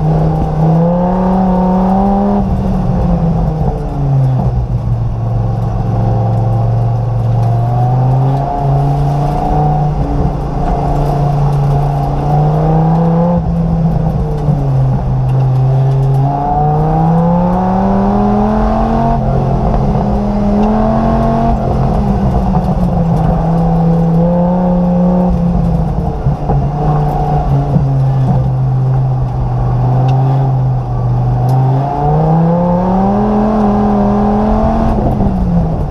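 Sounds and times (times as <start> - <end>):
race car engine revving: 0.0 - 35.9.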